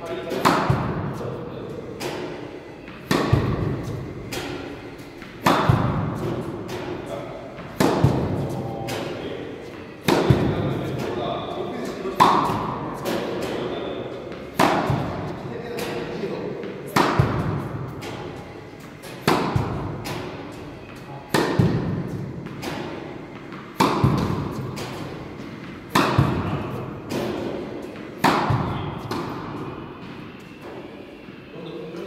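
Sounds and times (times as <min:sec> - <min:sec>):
tennis racket hitting ball: 0:00.2 - 0:01.2, 0:01.9 - 0:30.8.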